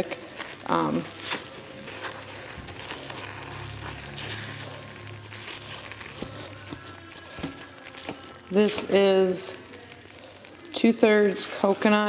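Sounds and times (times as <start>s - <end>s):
spoon stirring thick paste: 0.0s - 12.0s.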